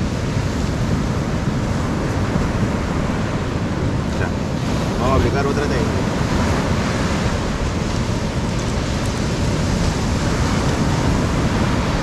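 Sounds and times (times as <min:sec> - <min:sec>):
ocean surf washing onto beach: 0:00.0 - 0:12.0
wind on microphone: 0:00.0 - 0:12.0.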